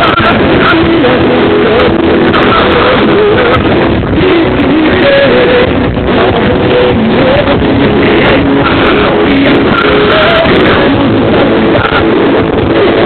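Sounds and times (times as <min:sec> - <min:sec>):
loud music with sung melody: 0:00.0 - 0:13.0.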